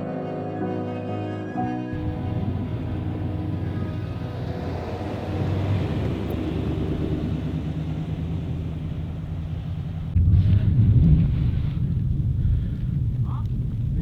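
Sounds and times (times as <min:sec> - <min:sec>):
vehicle engine rumbling: 0:02.0 - 0:14.0.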